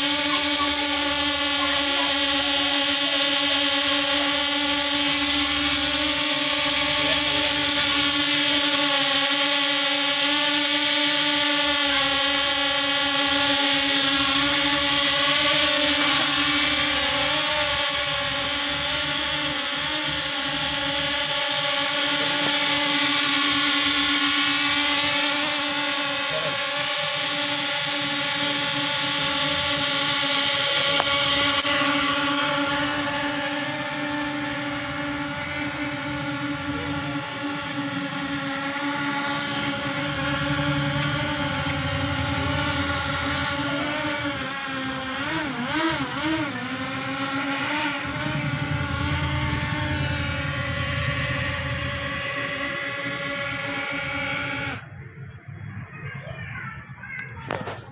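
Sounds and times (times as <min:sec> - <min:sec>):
drone propellers buzzing: 0:00.0 - 0:55.9
quadcopter motors whining: 0:00.0 - 0:57.9.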